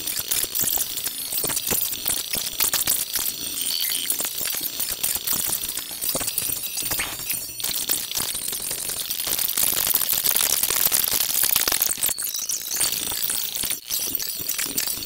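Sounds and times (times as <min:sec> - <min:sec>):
high-pitched crackling and clinking: 0:00.0 - 0:15.0.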